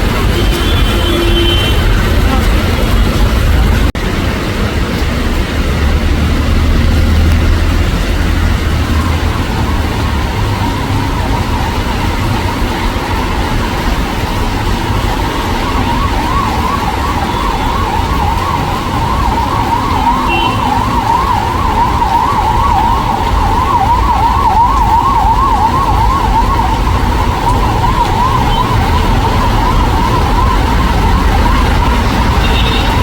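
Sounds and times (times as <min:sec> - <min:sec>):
emergency vehicle siren wailing: 0:00.0 - 0:33.0.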